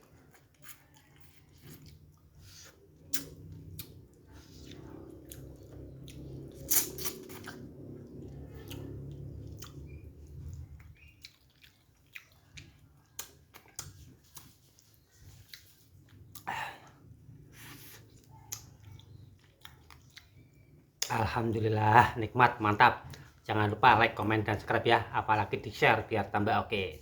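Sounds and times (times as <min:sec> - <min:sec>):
chewing with wet mouth clicks: 0:00.0 - 0:21.7, 0:22.5 - 0:24.8.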